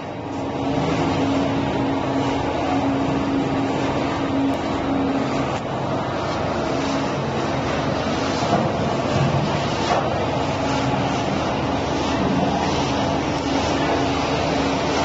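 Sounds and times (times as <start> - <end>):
machine drone with hum: 0.0 - 15.0.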